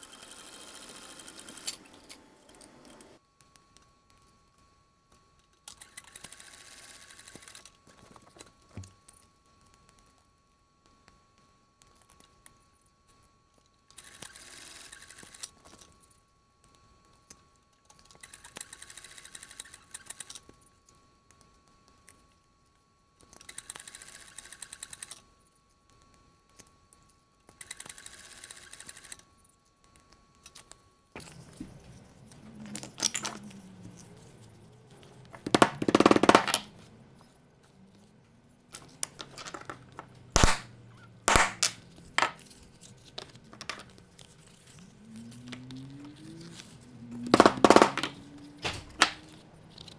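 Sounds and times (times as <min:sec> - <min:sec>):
faint steady whine: 0:00.0 - 0:49.9.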